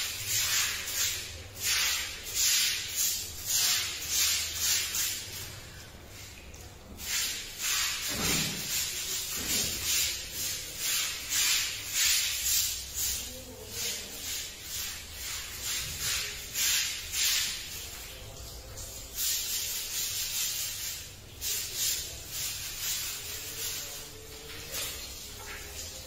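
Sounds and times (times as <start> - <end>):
broom scrubbing wet tiled floor: 0.0 - 26.0.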